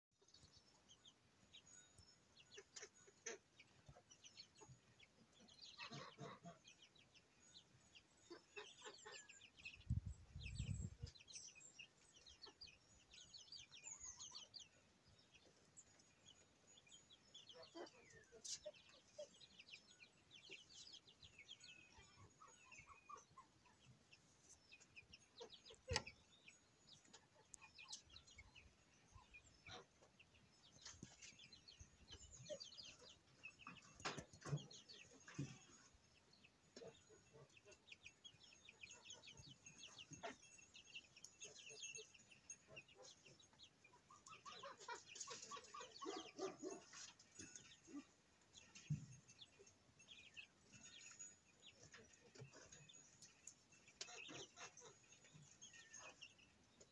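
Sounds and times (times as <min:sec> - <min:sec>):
small birds chirping: 0:00.1 - 0:56.9.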